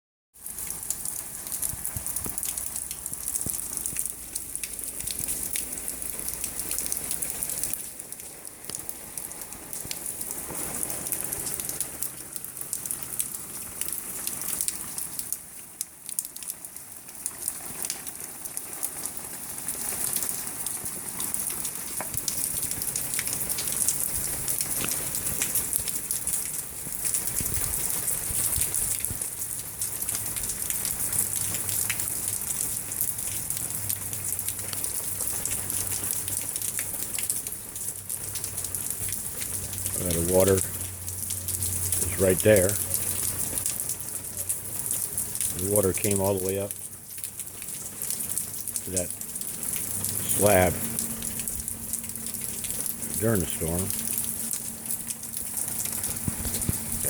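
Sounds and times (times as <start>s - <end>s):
heavy rain pattering: 0.4s - 57.0s.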